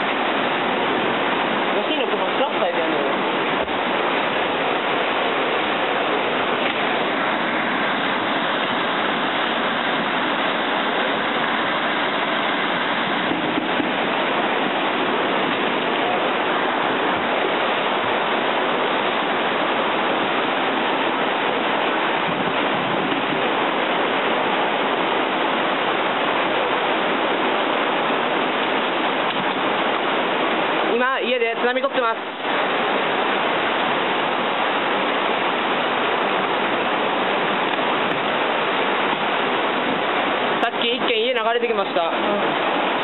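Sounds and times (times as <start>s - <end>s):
floodwater rushing: 0.0s - 43.0s.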